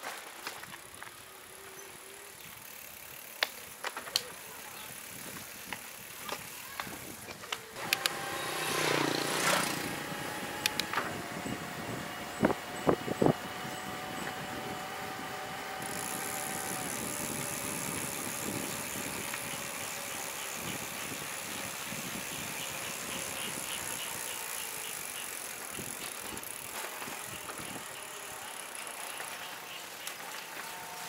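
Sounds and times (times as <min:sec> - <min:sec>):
bicycle tyre road noise: 0:00.0 - 0:31.0.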